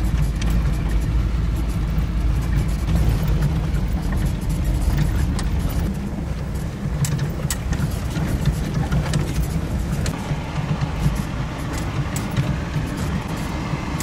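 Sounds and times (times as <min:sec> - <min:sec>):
knocks and rattles: 0:00.0 - 0:14.0
low engine rumble: 0:00.0 - 0:14.0.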